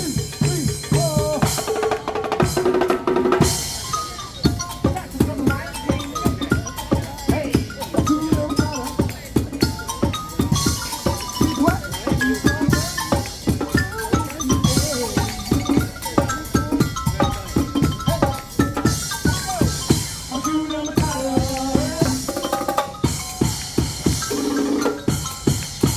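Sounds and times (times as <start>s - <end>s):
percussion drums playing: 0.0s - 25.9s
pitched melody: 0.0s - 25.9s.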